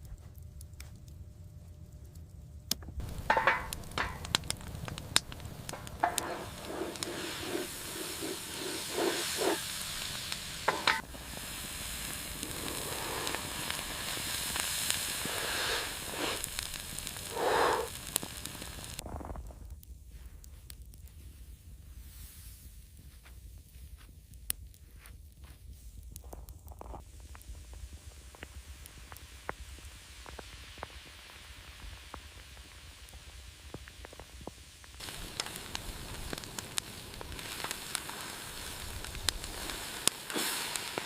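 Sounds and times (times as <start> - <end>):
fire crackling and popping: 0.0 - 41.0
meat sizzling over fire: 2.7 - 19.4, 20.0 - 41.0.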